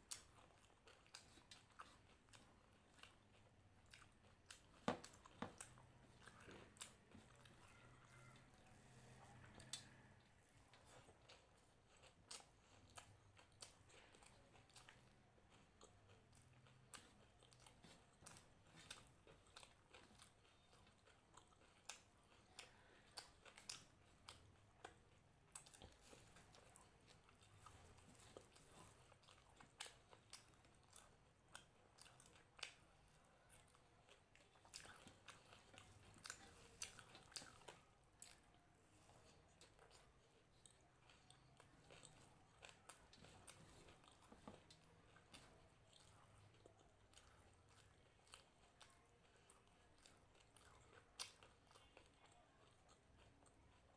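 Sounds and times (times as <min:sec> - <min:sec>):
chewing crunchy food: 0:00.0 - 0:53.9.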